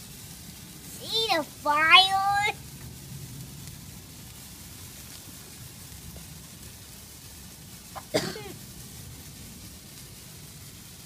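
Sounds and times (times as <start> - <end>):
sparkler fizzing: 0.0 - 11.0.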